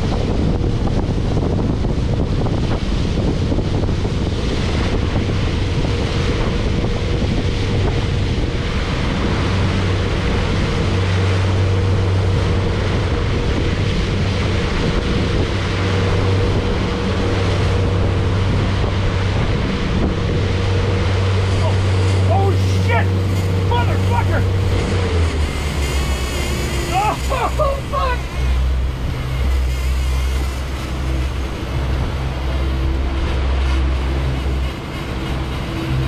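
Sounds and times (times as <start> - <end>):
outboard motors droning: 0.0 - 36.0
rush of boat wake: 0.0 - 36.0
wind buffeting microphone: 0.0 - 36.0.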